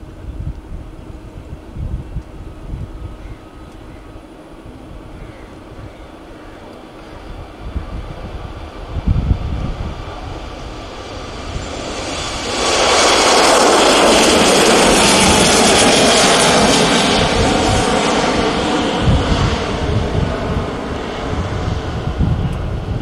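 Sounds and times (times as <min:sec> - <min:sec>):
jet airliner taking off: 0:00.0 - 0:23.0
low rumbling gusts: 0:00.0 - 0:23.0.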